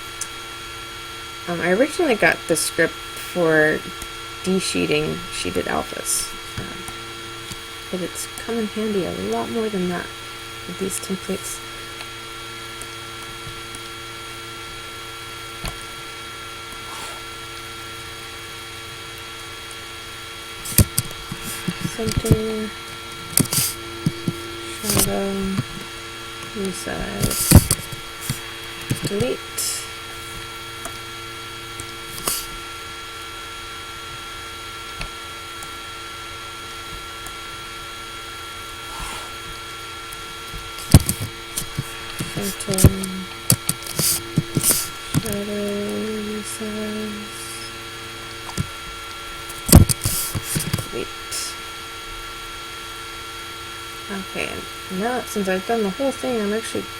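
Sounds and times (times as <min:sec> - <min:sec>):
laptop cooling fan humming: 0:00.0 - 0:56.9.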